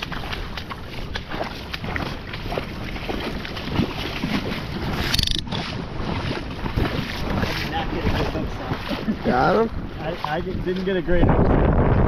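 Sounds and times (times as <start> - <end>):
wading steps splashing in river: 0.0 - 11.5
wind buffeting microphone: 0.0 - 12.0.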